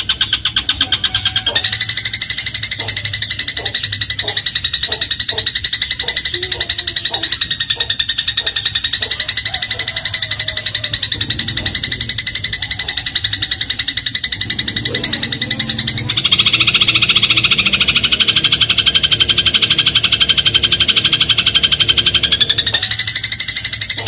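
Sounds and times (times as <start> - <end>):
sparrow rattling trill: 0.0 - 24.0.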